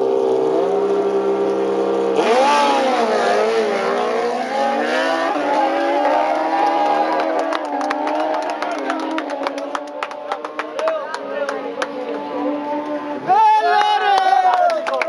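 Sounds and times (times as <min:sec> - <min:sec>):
motorcycle engines revving: 0:00.0 - 0:14.6.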